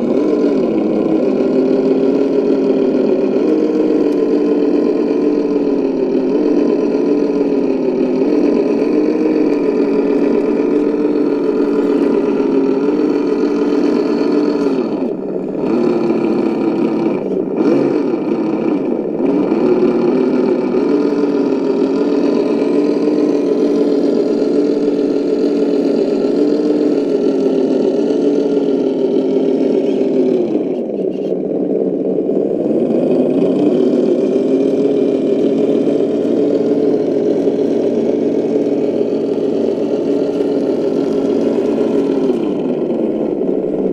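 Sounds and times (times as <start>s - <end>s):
toy truck electric motor droning: 0.0s - 43.9s.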